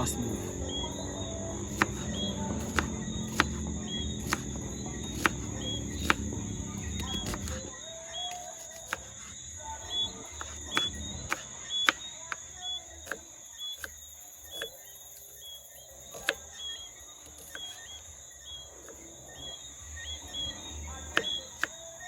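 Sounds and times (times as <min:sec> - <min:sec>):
crickets droning: 0:00.0 - 0:22.0
knife cutting onion: 0:00.1 - 0:14.8, 0:16.1 - 0:18.0, 0:20.3 - 0:22.0.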